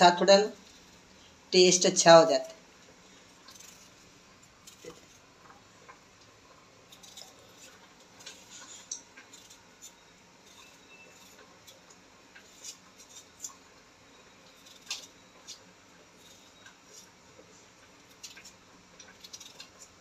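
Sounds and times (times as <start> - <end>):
knife scraping potato skin: 0.2 - 1.4, 2.4 - 5.4, 6.8 - 20.0.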